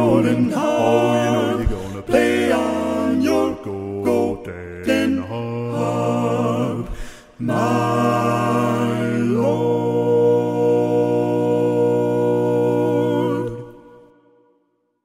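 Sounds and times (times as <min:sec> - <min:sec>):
vocal quartet singing a chord: 0:00.0 - 0:14.4.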